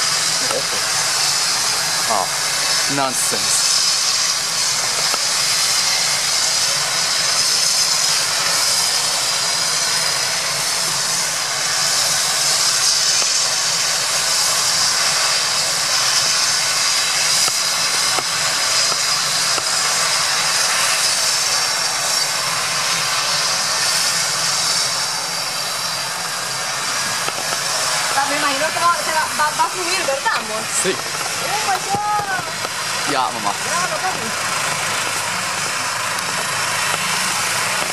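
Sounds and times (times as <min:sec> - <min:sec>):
helicopter turbine engines whining: 0:00.0 - 0:37.9.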